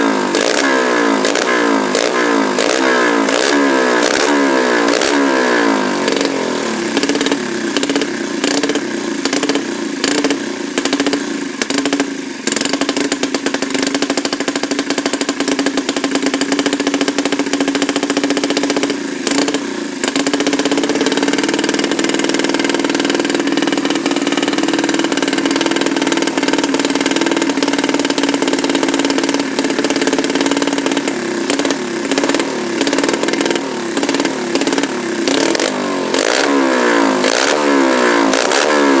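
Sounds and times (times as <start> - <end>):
motorcycle engine revving and idling: 0.0 - 39.0.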